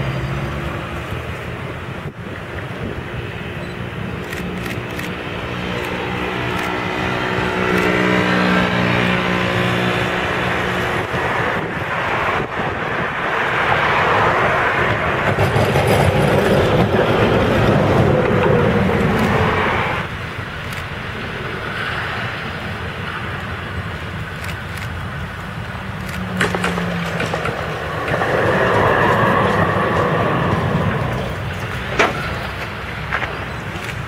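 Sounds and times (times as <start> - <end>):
distant tram running noise: 0.0 - 34.0
electric tram hum: 0.0 - 34.0
tram wheels rumbling on rails: 0.0 - 34.0.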